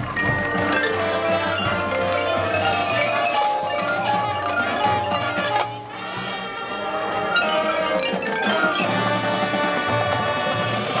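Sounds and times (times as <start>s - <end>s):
mallet percussion: 0.0s - 11.0s
marching band brass chords: 0.0s - 11.0s.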